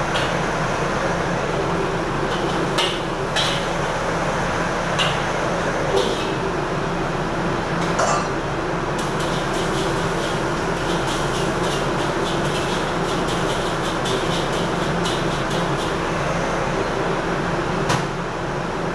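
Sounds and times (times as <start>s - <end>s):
gas burner roaring: 0.0s - 18.9s
kitchen extraction fan: 0.0s - 18.9s.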